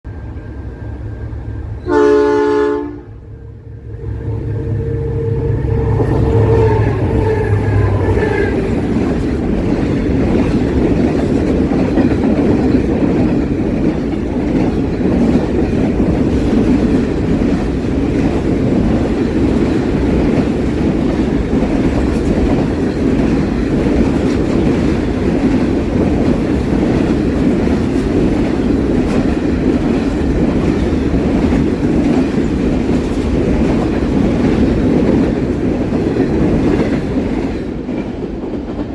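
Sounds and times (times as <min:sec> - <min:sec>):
diesel locomotive engine: 0:00.0 - 0:38.9.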